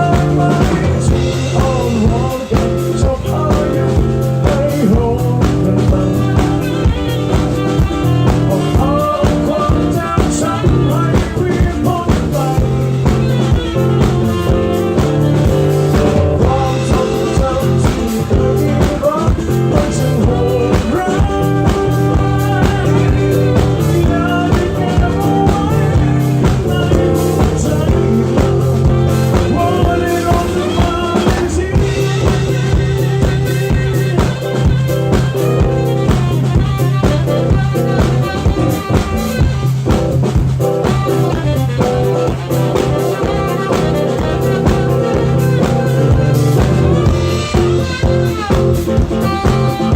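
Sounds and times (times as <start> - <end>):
drum kit beat: 0.0 - 49.9
instrumental rock music: 0.0 - 49.9.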